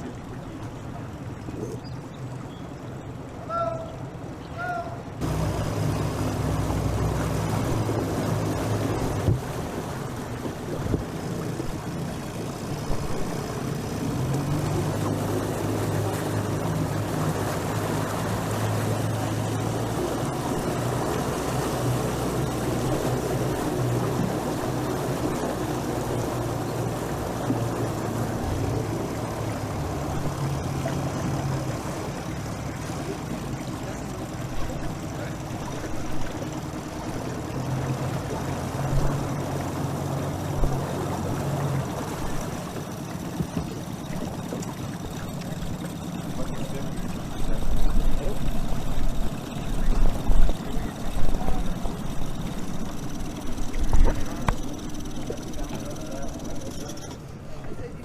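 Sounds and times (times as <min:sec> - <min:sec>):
motorboat engine running: 0:00.0 - 0:58.0
water and wind rushing: 0:00.0 - 0:58.0.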